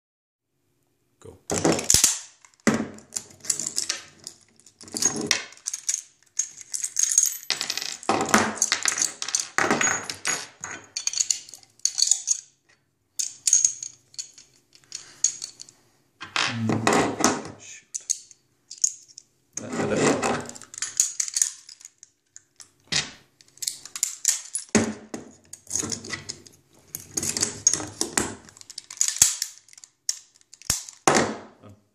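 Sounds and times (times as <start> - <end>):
pistol parts clicking and clattering: 1.5 - 16.4, 17.9 - 19.3, 20.2 - 31.4.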